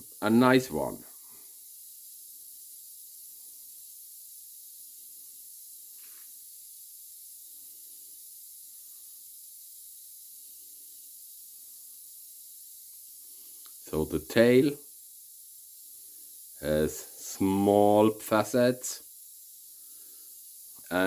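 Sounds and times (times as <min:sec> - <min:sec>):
high-pitched background hiss: 0:00.0 - 0:21.0.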